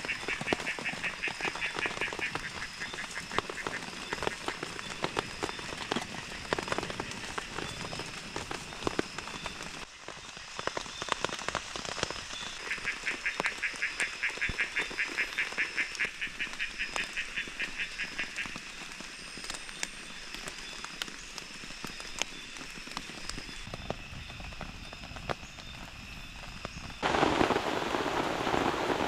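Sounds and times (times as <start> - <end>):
rain dripping: 0.0 - 29.0.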